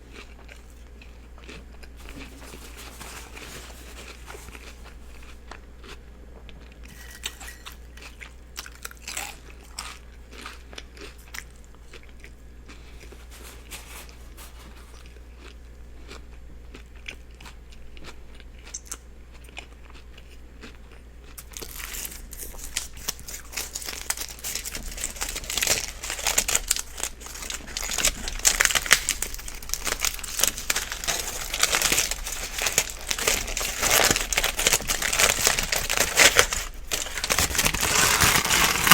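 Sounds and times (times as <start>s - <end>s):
chewing and biting sandwich: 0.0s - 6.9s, 7.7s - 38.9s.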